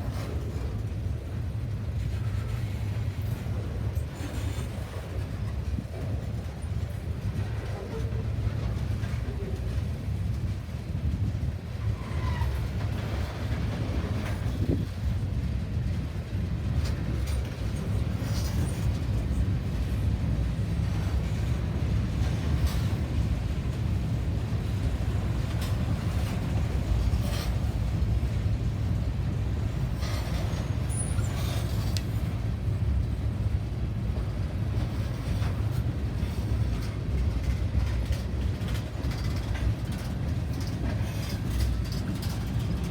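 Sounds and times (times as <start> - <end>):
train rumbling: 0.0 - 42.9.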